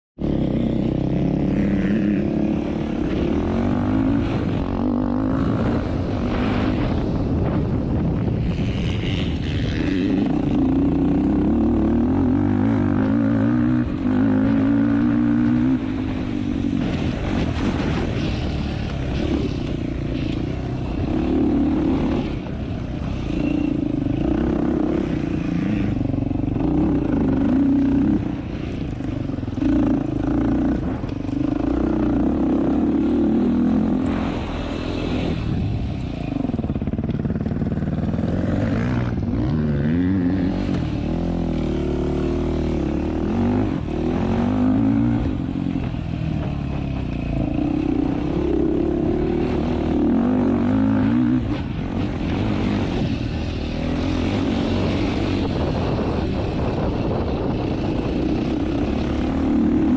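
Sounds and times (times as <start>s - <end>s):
quad engine revving: 0.2s - 7.4s, 8.4s - 59.9s.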